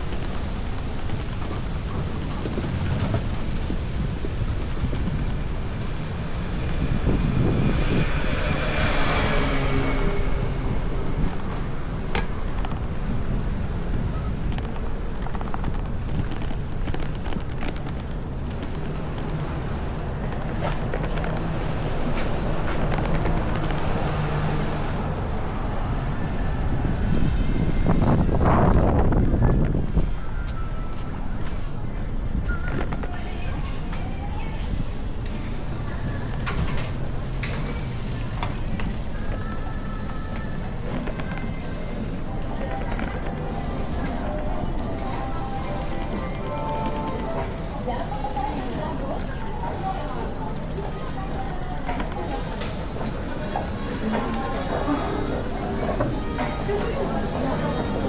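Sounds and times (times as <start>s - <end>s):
city street noise: 0.0s - 58.0s
wind buffeting microphone: 0.0s - 58.0s.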